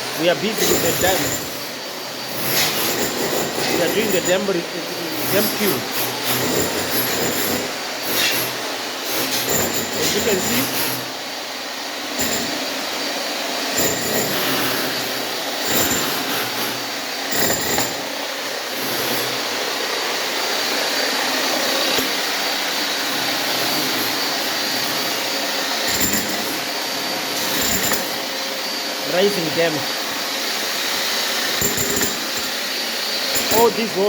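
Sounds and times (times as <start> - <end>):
power tool grinding with whine: 0.0 - 34.0.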